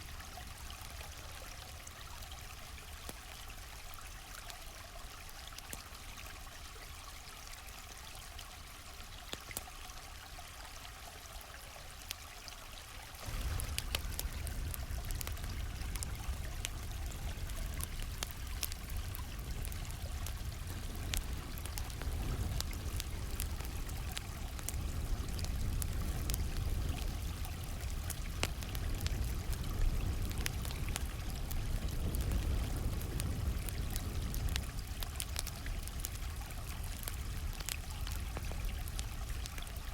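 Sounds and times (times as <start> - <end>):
campfire crackling: 0.0 - 10.4, 13.0 - 39.9
stream flowing: 0.0 - 39.9.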